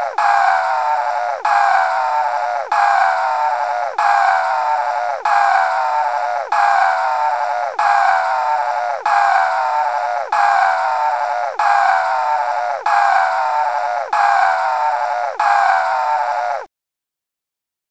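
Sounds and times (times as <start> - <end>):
cartoon scream: 0.0 - 16.7.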